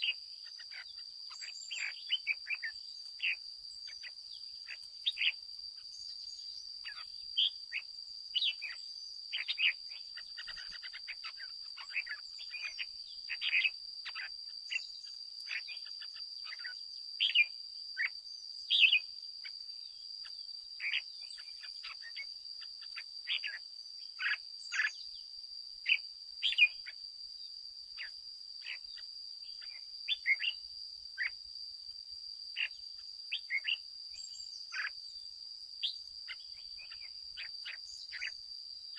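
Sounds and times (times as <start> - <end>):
bird chirping: 0.0 - 31.4, 32.5 - 38.9.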